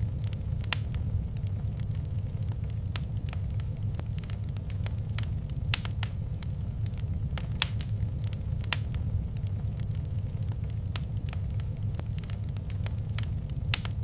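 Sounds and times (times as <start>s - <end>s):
low rumble of burning fire: 0.0s - 14.0s
wood fire crackling: 0.0s - 14.0s.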